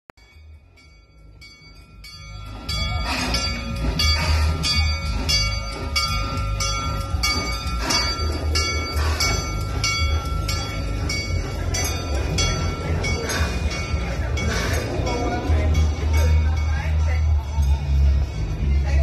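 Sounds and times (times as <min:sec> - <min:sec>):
locomotive bell ringing: 0:00.2 - 0:19.0
train rumbling: 0:00.2 - 0:19.0.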